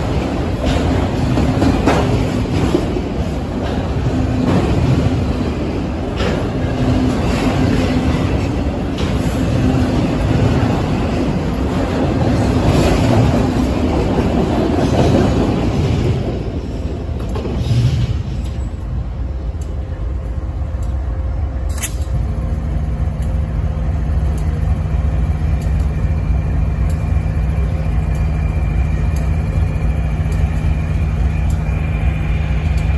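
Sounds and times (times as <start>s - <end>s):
diesel locomotive engine hum: 0.0s - 32.9s
freight cars rolling on rails: 0.0s - 32.9s.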